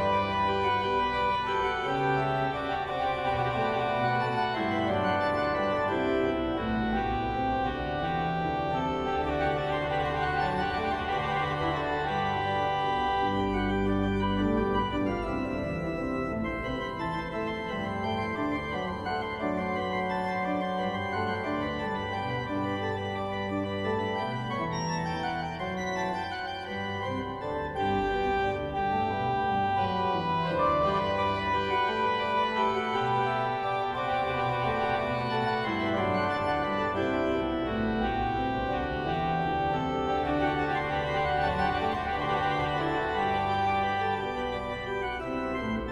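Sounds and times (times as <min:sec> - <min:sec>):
organ playing sustained chords: 0:00.0 - 0:45.9.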